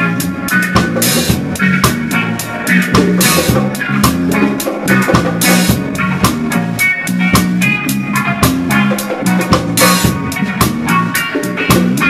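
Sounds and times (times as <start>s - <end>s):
drums and cymbals: 0.0s - 12.0s
reggae band playing: 0.0s - 12.0s.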